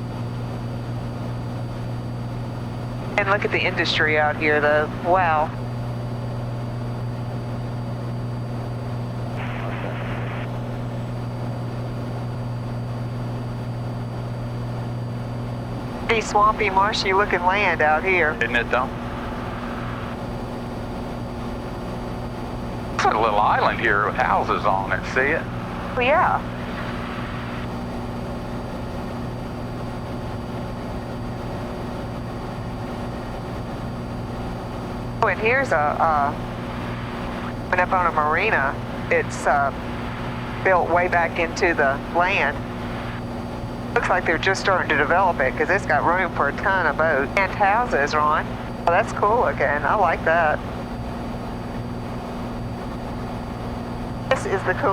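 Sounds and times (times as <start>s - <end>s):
airplane engine and propeller droning: 0.0s - 54.9s.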